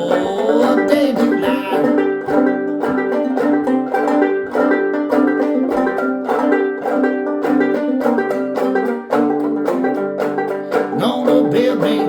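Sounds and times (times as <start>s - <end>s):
folk tune on plucked strings: 0.0s - 12.0s.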